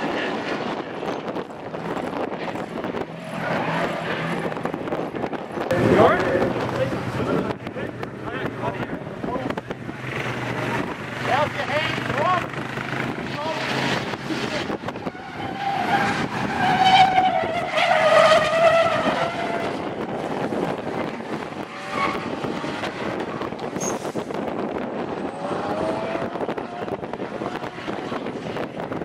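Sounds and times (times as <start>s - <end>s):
car engines revving hard: 0.0s - 29.0s
tyres skidding: 0.0s - 29.0s.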